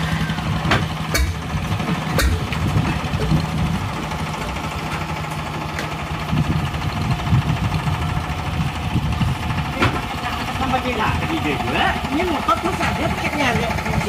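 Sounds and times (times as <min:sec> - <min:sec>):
boat diesel engine knocking: 0:00.0 - 0:14.0.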